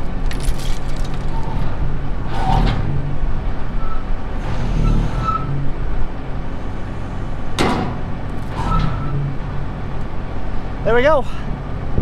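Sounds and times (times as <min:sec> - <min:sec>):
hydraulic whine: 0:00.0 - 0:10.4
noisy rush: 0:00.0 - 0:12.0
truck engine running: 0:00.0 - 0:12.0.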